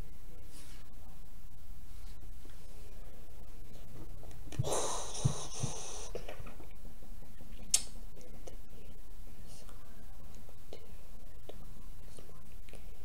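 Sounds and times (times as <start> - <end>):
microphone hum and hiss: 0.0 - 13.0.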